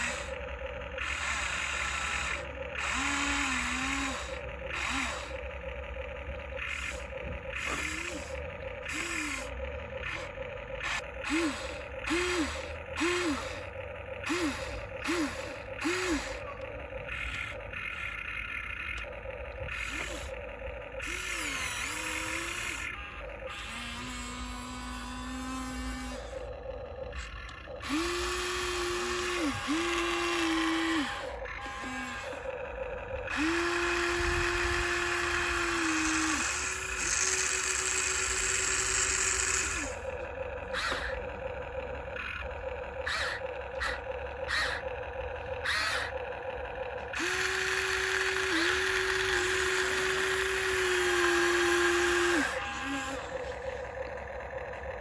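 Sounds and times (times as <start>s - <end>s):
small electric motors whining: 0.0s - 55.0s.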